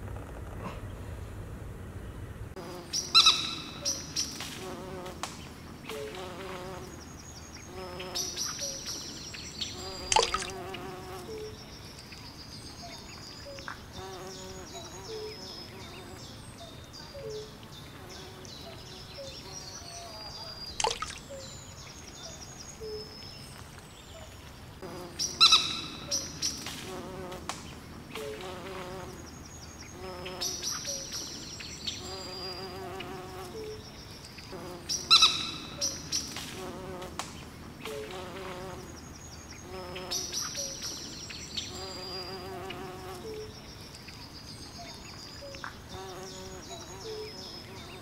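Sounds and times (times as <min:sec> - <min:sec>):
insects buzzing: 0:02.5 - 0:20.1, 0:24.5 - 0:48.0.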